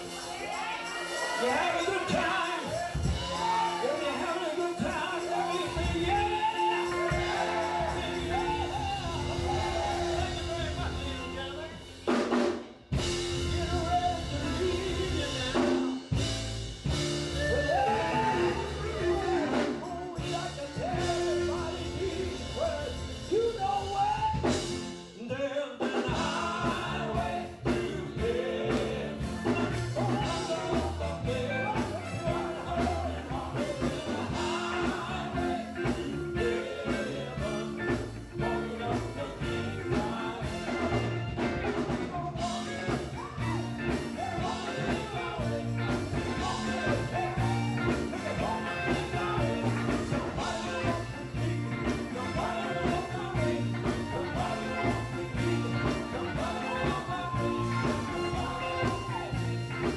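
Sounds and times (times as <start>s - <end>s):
male vocal group singing: 0.0s - 12.4s, 13.0s - 16.3s, 16.9s - 59.9s
electric guitar: 0.0s - 25.1s, 26.0s - 59.9s
bass guitar: 0.0s - 59.9s
drums: 0.0s - 59.9s.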